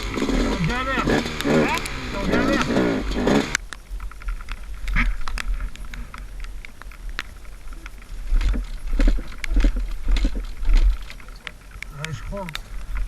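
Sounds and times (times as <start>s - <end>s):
sharp clicks and knocks: 0.0s - 13.0s.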